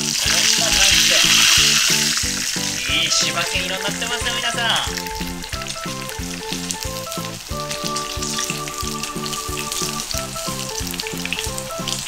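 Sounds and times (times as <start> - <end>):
chicken wings sizzling in oil: 0.0 - 12.0.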